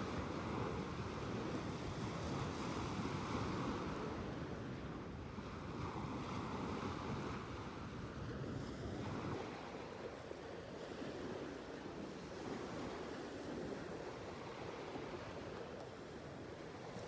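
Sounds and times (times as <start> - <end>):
small sea waves breaking: 0.0 - 17.0.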